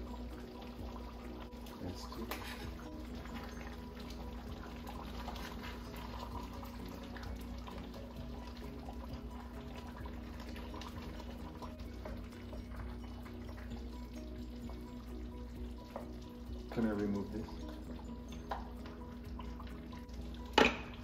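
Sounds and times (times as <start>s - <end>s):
sauce bubbling in a skillet: 0.0s - 21.0s
soft background music: 0.0s - 21.0s.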